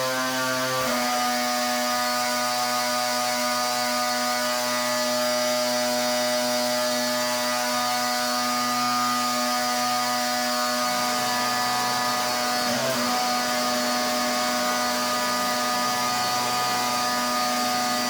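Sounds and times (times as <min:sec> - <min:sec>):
pressure washer motor hum: 0:00.0 - 0:18.0.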